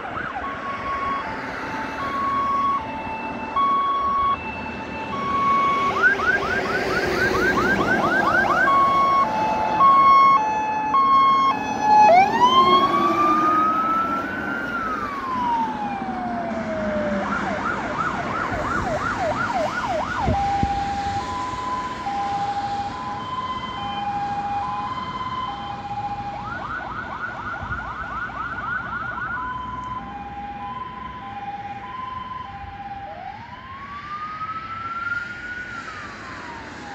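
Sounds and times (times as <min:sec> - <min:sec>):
fire engine siren: 0:00.0 - 0:36.9
truck engine: 0:00.0 - 0:36.9.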